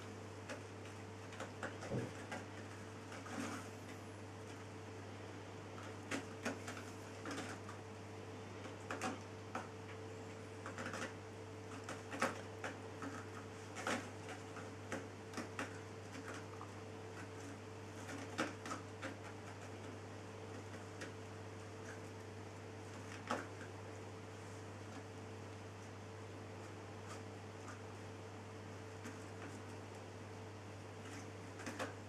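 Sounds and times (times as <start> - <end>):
kittens clicking and scratching: 0.0 - 5.0, 5.6 - 32.0.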